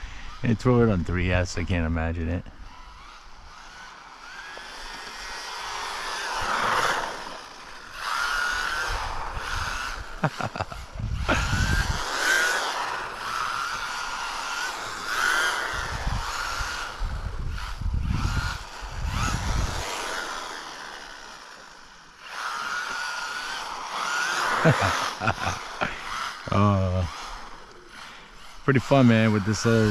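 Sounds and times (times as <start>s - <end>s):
electric motor whine: 0.0s - 29.9s.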